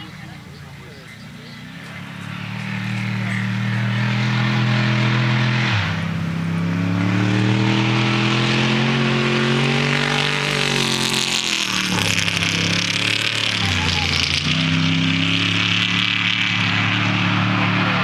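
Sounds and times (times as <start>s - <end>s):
race vehicle engine accelerating: 0.0s - 18.0s.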